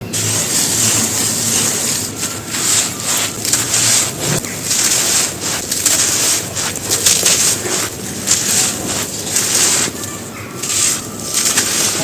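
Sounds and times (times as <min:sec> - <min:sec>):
chalky material crumbling: 0:00.0 - 0:12.0.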